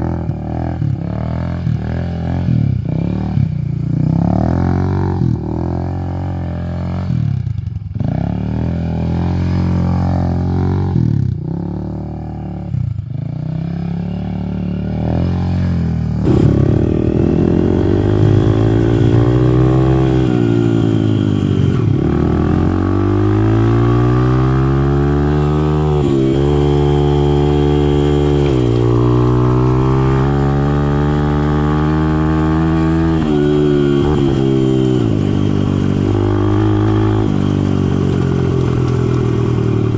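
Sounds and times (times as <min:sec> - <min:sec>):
dirt bike engine revving: 0:00.0 - 0:07.4, 0:08.0 - 0:39.9
quad engine revving: 0:00.0 - 0:07.4, 0:08.0 - 0:39.9.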